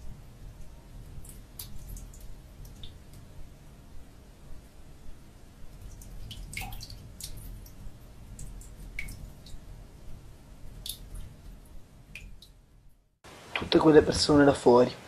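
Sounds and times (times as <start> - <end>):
low steady rumble: 0.0 - 13.4.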